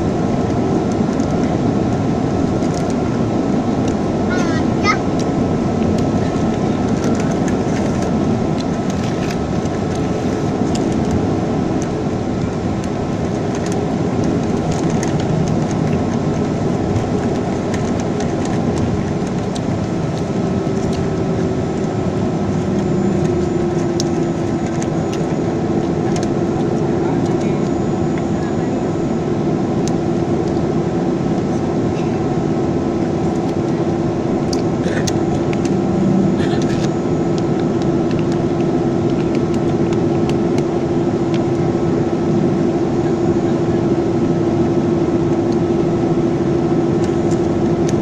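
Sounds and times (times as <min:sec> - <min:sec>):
jet engines rumble and whine: 0:00.0 - 0:48.0.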